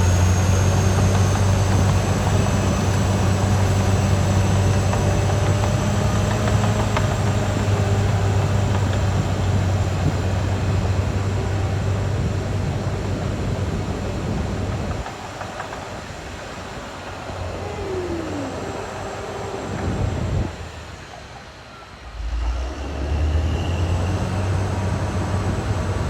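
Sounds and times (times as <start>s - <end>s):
bulldozer diesel engine: 0.0s - 26.0s
steel tracks rumbling and clanking: 0.0s - 26.0s.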